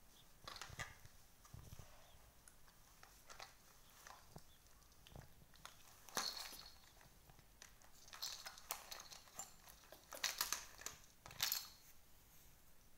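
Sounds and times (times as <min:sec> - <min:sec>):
faint rustling and crinkling: 0:00.0 - 0:12.9.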